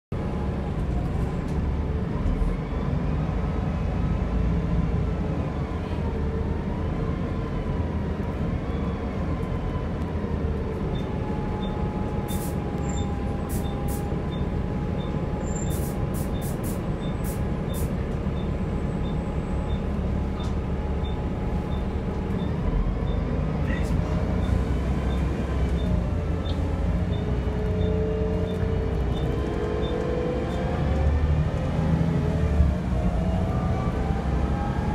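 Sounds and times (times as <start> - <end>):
bus engine and road rumble: 0.1 - 34.9.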